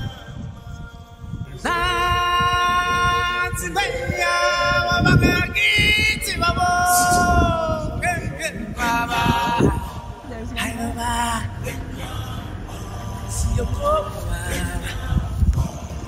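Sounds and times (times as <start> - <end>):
voices singing: 0.0 - 16.0.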